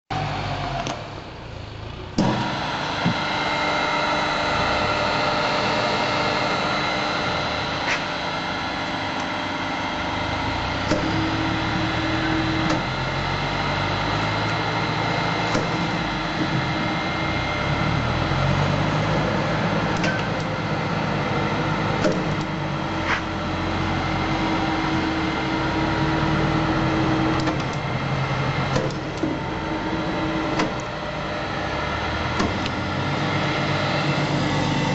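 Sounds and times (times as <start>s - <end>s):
knife grinding machine humming: 2.5s - 34.9s.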